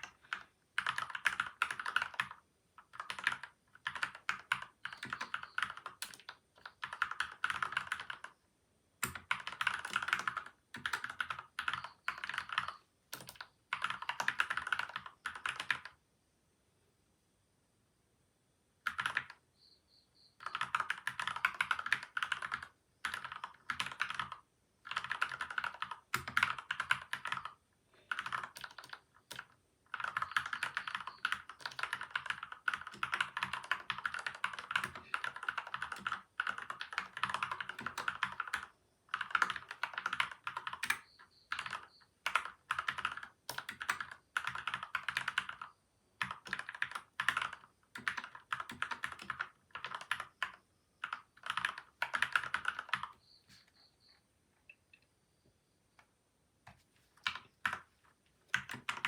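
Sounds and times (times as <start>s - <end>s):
mechanical keyboard typing: 0.0s - 8.4s, 9.0s - 16.0s, 18.8s - 19.4s, 20.4s - 53.2s, 57.2s - 57.9s, 58.5s - 59.0s.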